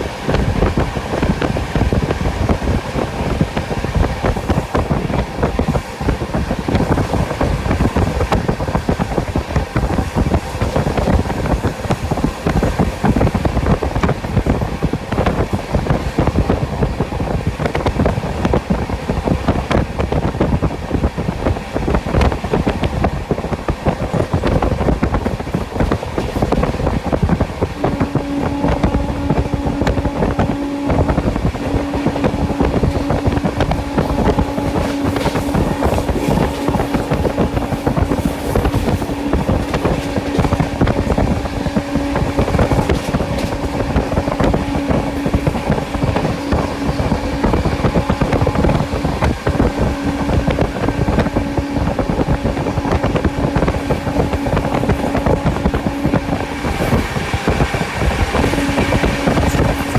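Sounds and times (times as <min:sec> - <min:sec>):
wheels clicking over track: 0:00.0 - 0:30.1, 0:31.4 - 0:59.9
train wheels rushing on rails: 0:00.0 - 0:59.9.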